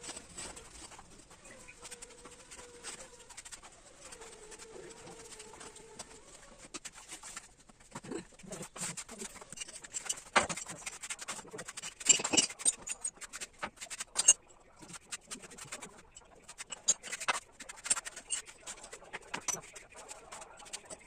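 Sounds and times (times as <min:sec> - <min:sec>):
scraping and knocking objects: 0:00.0 - 0:21.0.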